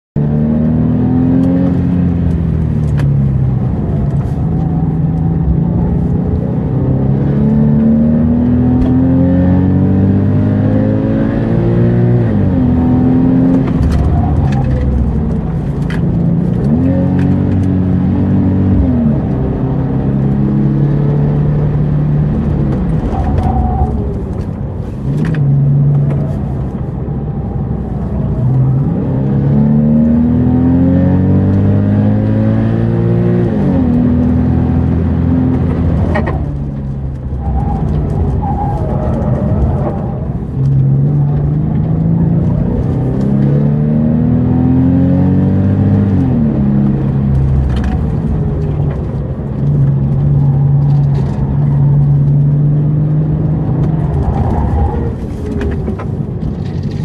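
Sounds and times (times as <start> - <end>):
sports car engine accelerating: 0.2 - 57.0.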